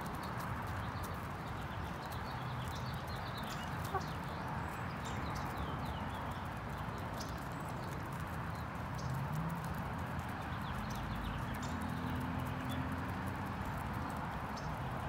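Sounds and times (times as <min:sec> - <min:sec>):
hens pecking beak taps: 0:00.0 - 0:15.0.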